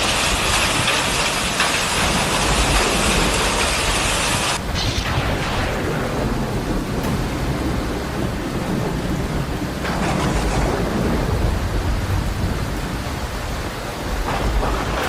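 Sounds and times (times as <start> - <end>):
flood water rushing: 0.0 - 15.0.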